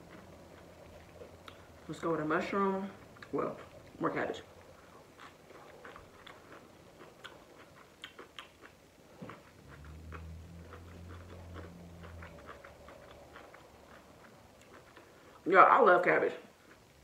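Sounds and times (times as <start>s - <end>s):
chewing with clicks and smacks: 0.0s - 2.0s, 2.9s - 15.5s, 16.4s - 17.0s
low steady hum: 0.0s - 17.0s.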